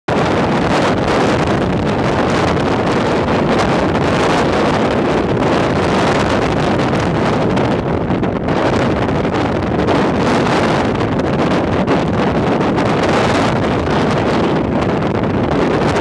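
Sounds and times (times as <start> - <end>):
strong wind buffeting microphone: 0.1 - 16.0.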